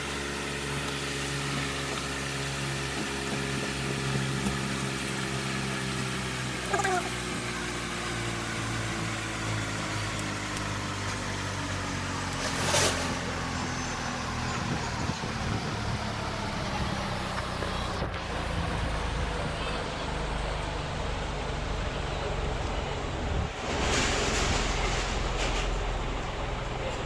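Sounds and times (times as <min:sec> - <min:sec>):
motor humming: 0:00.0 - 0:27.0.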